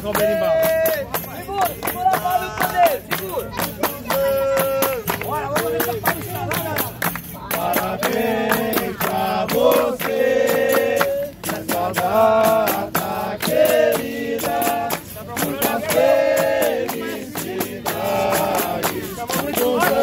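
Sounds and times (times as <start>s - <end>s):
group singing a chant: 0.0s - 1.1s, 2.1s - 20.0s
percussion: 0.0s - 20.0s
rhythmic handclapping: 0.0s - 20.0s.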